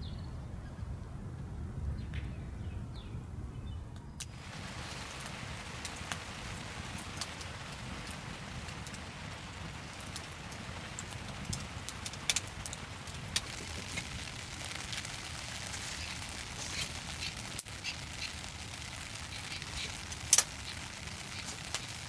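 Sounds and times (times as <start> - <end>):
sharp ticks: 4.2 - 22.0
steady rain hiss: 4.2 - 22.0.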